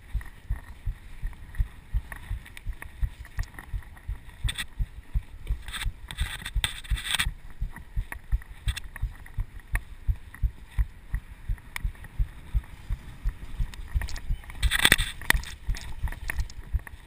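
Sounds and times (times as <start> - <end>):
hissing trail and wind noise: 0.0 - 17.0.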